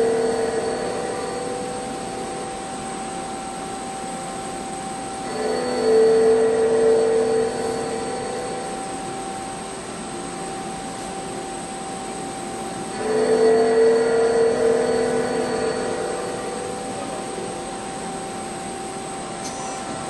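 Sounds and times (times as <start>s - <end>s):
cnc machine humming: 0.0s - 20.0s
high-pitched machine whine: 0.0s - 20.0s.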